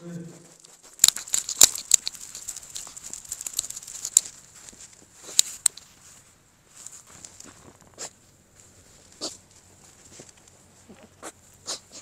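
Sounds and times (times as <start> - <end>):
dog footsteps crunching snow: 0.3 - 11.6.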